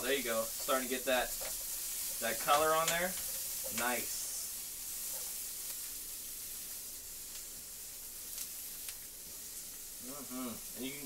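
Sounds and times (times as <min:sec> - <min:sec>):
asparagus sizzling in a frying pan: 0:00.0 - 0:11.0.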